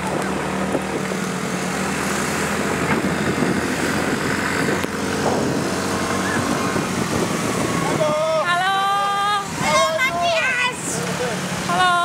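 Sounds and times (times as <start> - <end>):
small motorbike engine running: 0.0 - 9.8
wind and road noise: 0.0 - 12.0.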